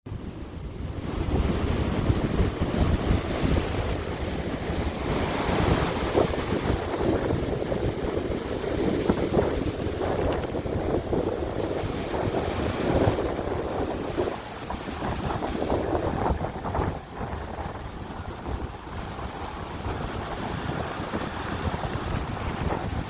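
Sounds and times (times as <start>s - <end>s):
wind buffeting microphone: 0.1s - 23.0s
ocean surf washing ashore: 0.2s - 23.0s.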